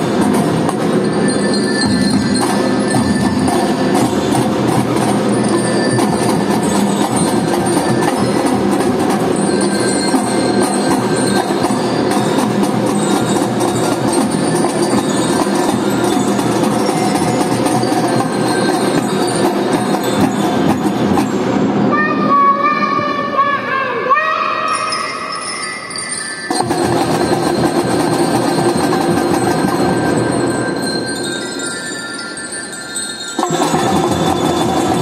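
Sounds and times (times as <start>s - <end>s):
bell-like melody: 0.0s - 21.7s, 24.6s - 35.0s
marching drum band playing: 0.0s - 21.9s, 26.5s - 31.7s, 33.4s - 35.0s.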